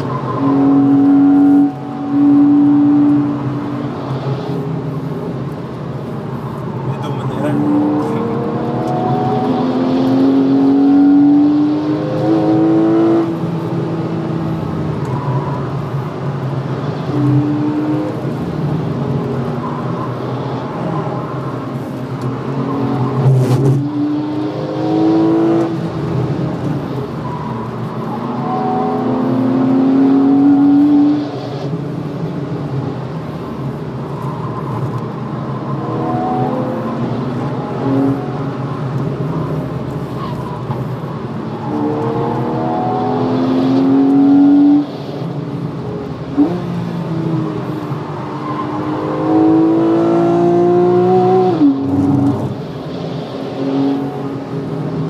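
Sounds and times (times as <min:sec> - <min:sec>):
car engine accelerating: 0:00.0 - 0:31.9, 0:32.5 - 0:44.9, 0:45.6 - 0:55.0.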